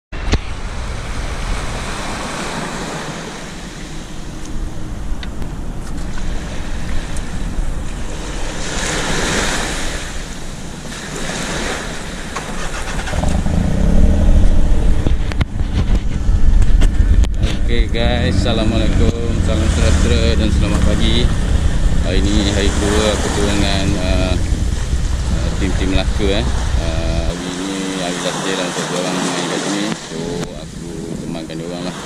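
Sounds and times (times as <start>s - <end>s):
wind buffeting microphone: 0.1s - 28.3s
small waves washing onto sand: 0.2s - 4.8s, 5.9s - 32.0s.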